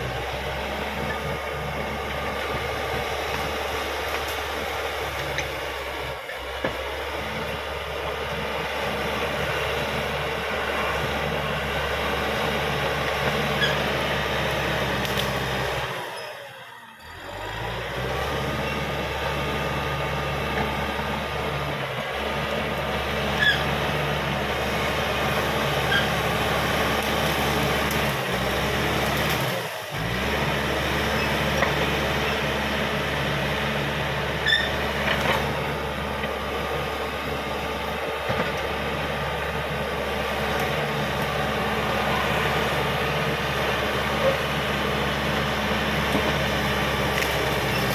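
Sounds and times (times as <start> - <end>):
bulldozer diesel engine: 0.0 - 47.9.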